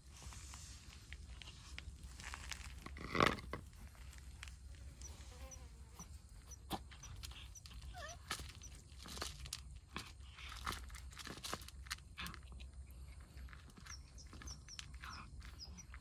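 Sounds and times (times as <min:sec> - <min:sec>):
cats chewing food: 0:00.8 - 0:05.2, 0:06.0 - 0:16.0.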